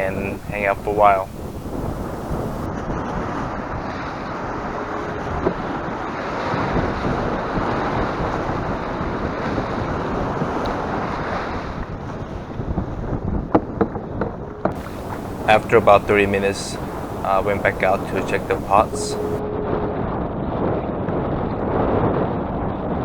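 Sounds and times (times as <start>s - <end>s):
choppy sea: 0.0s - 23.0s
wind buffeting microphone: 0.0s - 23.0s.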